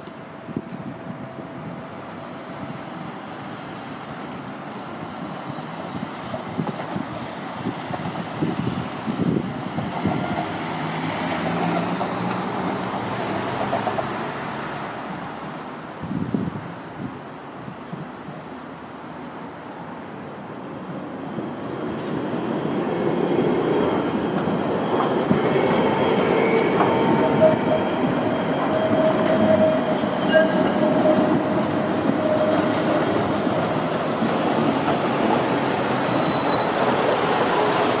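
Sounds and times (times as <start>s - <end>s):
tram running past: 0.0s - 38.0s
tram wheels squealing on rails: 0.6s - 14.9s, 17.3s - 38.0s.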